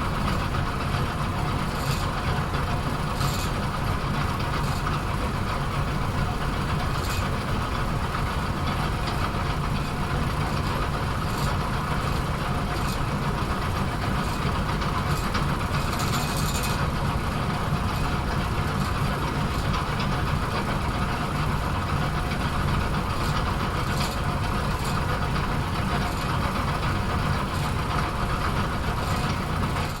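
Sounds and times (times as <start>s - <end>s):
pinsetter machinery humming: 0.0s - 30.0s
faint clicks and rattles: 0.1s - 30.0s.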